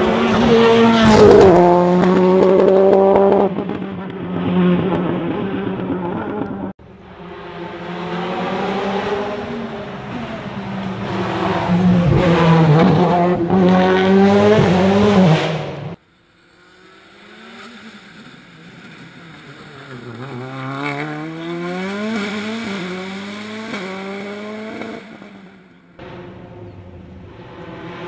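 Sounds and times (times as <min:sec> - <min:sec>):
rally car engine at full throttle: 0:00.0 - 0:28.0.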